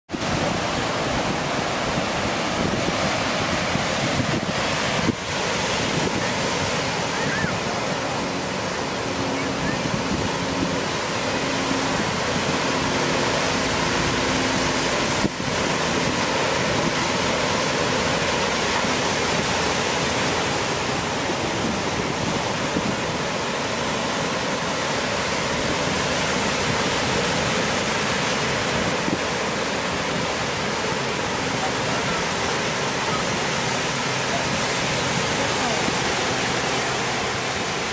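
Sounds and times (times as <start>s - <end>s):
ocean surf rushing: 0.1s - 37.9s.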